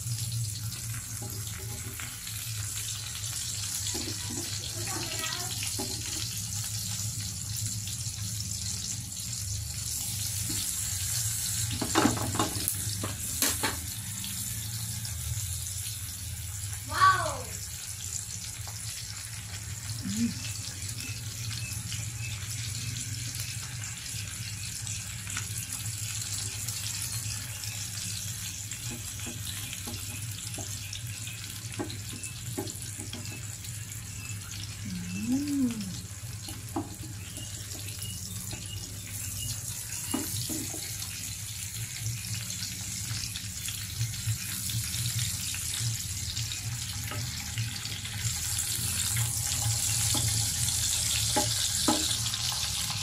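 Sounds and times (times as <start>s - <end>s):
meat sizzling in a pan: 0.0s - 53.0s.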